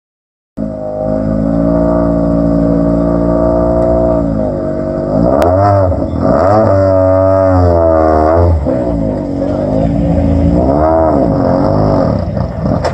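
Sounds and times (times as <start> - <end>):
car engine revving: 0.6 - 12.9.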